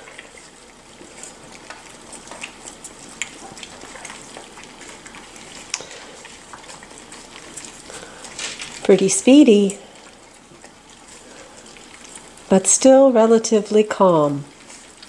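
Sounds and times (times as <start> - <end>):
puppies lapping and chewing: 0.0 - 15.0.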